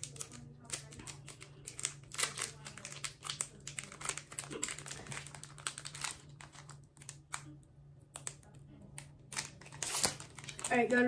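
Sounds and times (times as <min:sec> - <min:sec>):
card pack wrapper crinkling: 0:00.0 - 0:07.5, 0:09.3 - 0:11.0.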